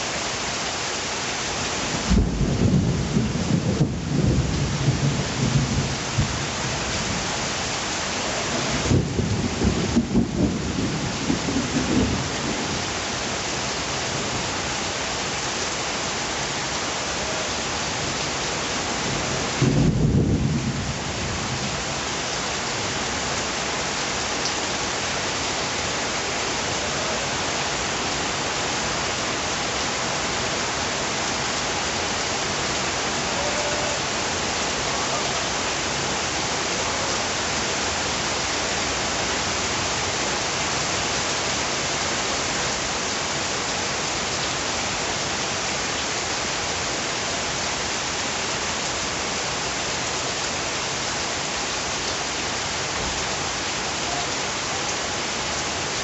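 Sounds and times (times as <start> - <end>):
steady rain pouring: 0.0 - 56.0.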